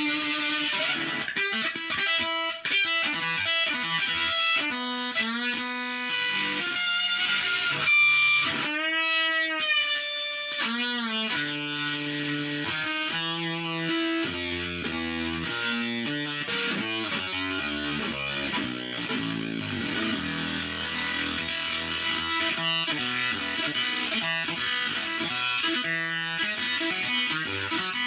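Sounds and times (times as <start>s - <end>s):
fuzzy electric guitar notes: 0.0s - 28.0s.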